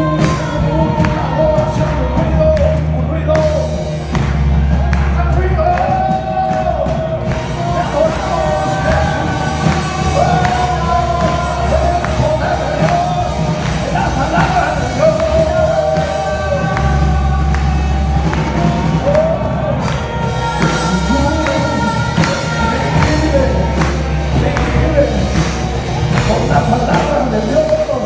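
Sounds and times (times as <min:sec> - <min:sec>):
band with bass and beat: 0:00.0 - 0:28.0
group of voices singing: 0:00.0 - 0:28.0.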